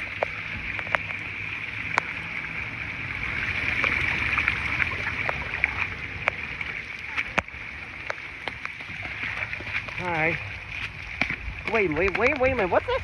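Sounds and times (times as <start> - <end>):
raindrops tapping near microphone: 0.0 - 13.0.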